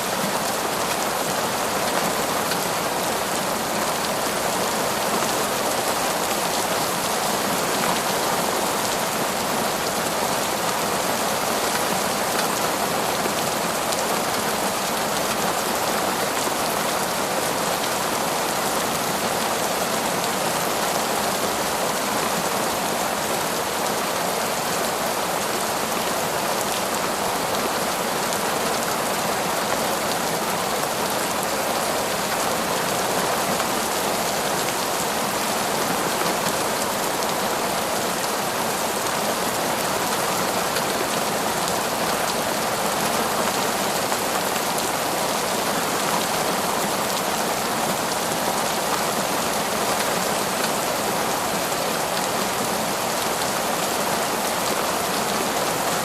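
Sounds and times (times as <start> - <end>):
heavy torrential rain: 0.0 - 56.0.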